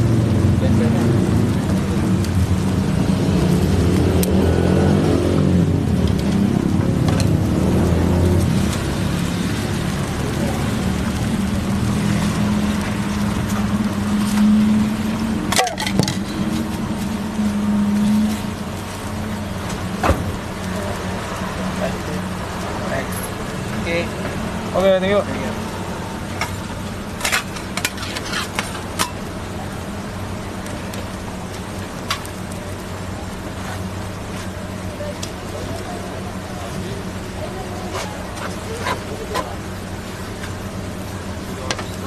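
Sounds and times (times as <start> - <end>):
engine-like hum: 0.0 - 42.0.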